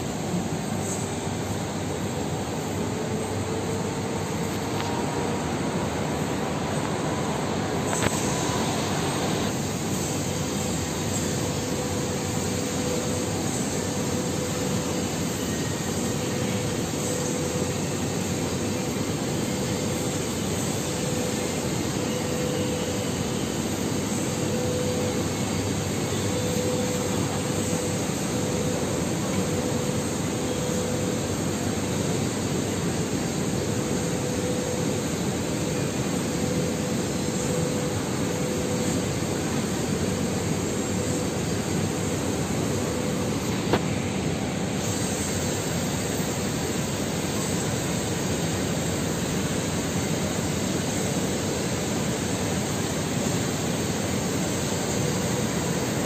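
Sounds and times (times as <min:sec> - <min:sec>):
faint constant hum: 0:00.0 - 0:56.0
machinery droning: 0:00.0 - 0:56.0.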